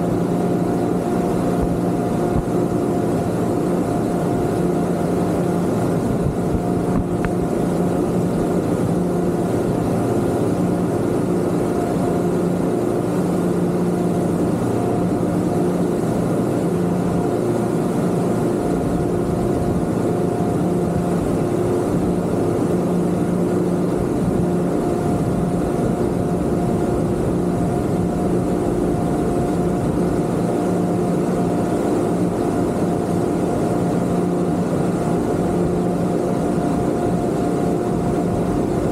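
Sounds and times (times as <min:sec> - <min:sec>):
outboard motors droning: 0:00.0 - 0:38.9
water rushing: 0:00.0 - 0:38.9.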